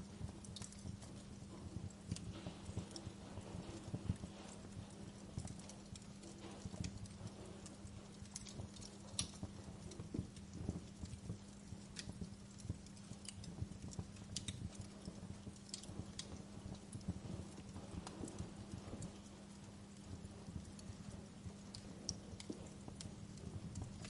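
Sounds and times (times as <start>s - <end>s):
fire crackling and popping: 0.0s - 24.0s
low rumble of flames: 0.0s - 24.0s
steady low hum: 0.0s - 24.0s.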